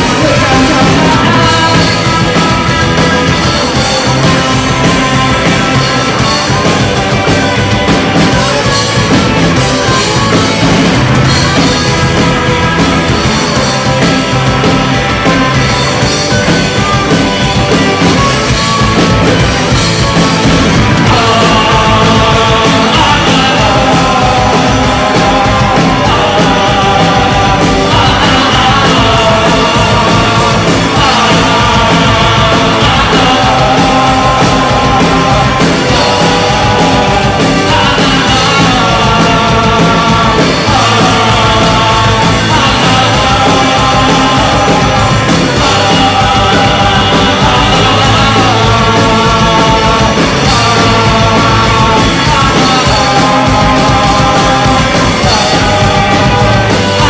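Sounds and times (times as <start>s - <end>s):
person singing: 0.0s - 57.0s
punk rock band playing live: 0.0s - 57.0s.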